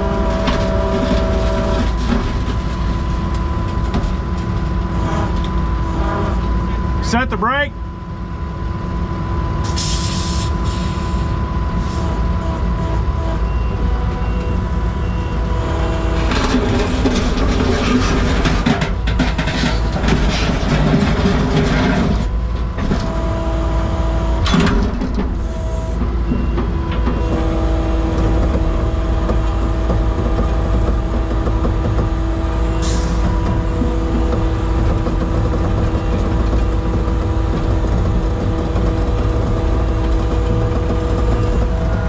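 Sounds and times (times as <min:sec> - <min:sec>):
skid steer engine running: 0:00.0 - 0:07.1, 0:08.0 - 0:42.0.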